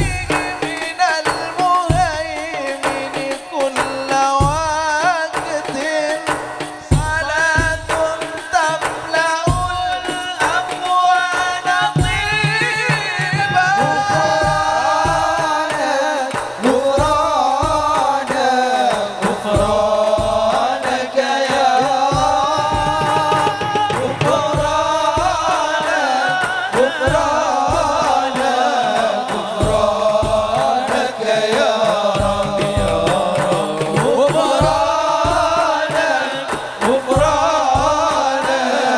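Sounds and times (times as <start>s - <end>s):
drum beat: 0.0s - 38.9s
lead singer's voice: 0.0s - 38.9s
other singers: 0.0s - 38.9s.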